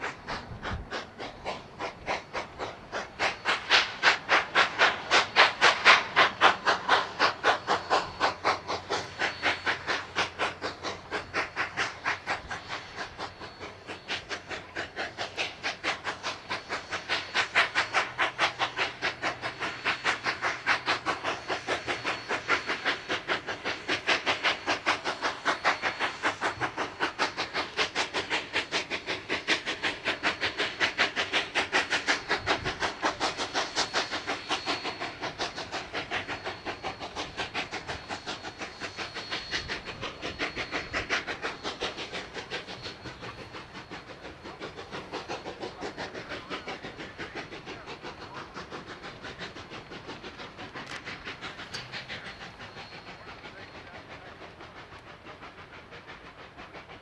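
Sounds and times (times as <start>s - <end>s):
steam locomotive exhaust chuffs: 0.0s - 57.0s.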